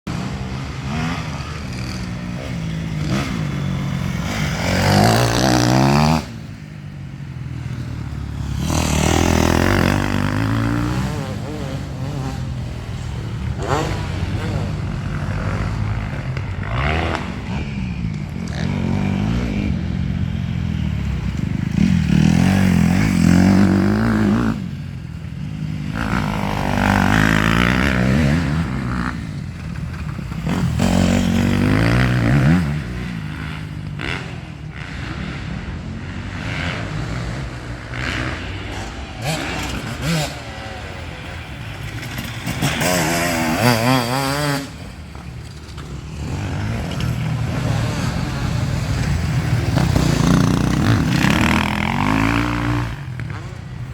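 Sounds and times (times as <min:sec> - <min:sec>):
motocross engines revving: 0:00.1 - 0:53.9.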